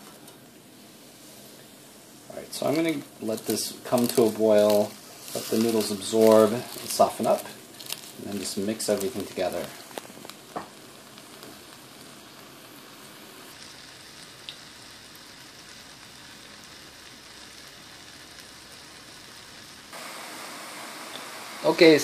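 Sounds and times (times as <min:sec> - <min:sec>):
broth bubbling in a wok: 0:00.0 - 0:22.0.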